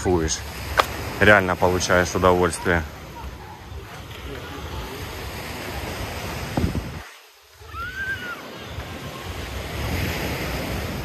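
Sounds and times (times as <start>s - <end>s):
sea surf washing onto beach: 0.0s - 11.0s
wind buffeting microphone: 0.0s - 11.0s.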